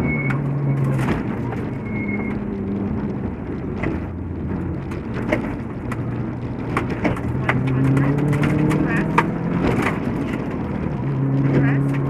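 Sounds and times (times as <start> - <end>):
rally car engine pulling: 0.0 - 12.0.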